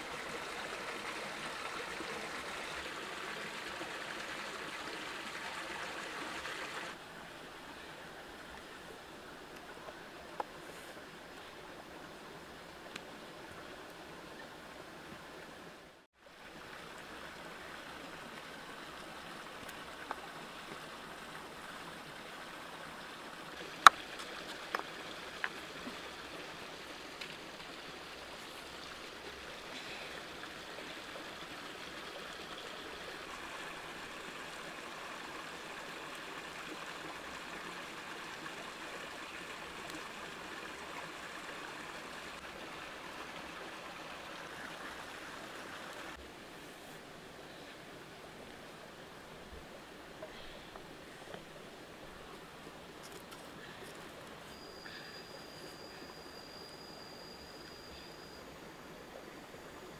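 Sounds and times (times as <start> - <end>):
rocky stream rushing: 0.0 - 50.2.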